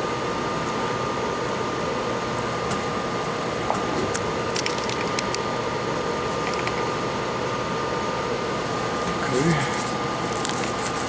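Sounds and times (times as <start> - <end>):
fan-like hum with whine: 0.0 - 11.0.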